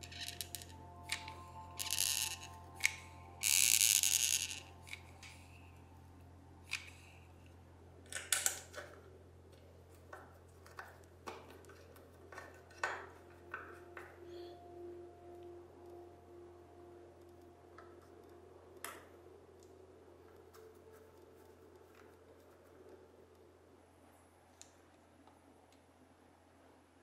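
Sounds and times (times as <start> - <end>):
low hum: 0.0 - 26.8.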